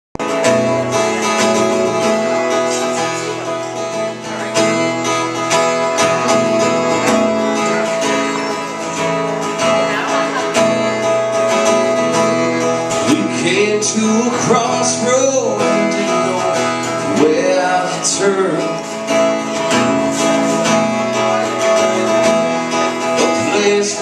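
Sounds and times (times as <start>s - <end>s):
acoustic guitar strumming: 0.2s - 24.0s.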